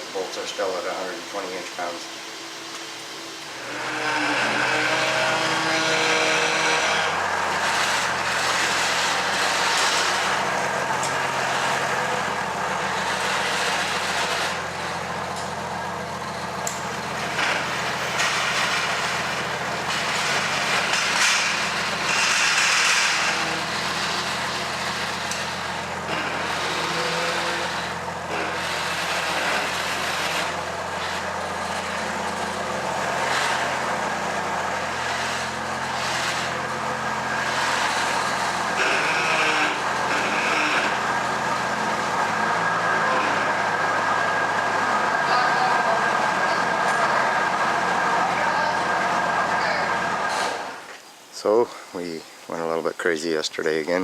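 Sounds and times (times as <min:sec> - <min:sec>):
engine idling: 0:05.0 - 0:50.8.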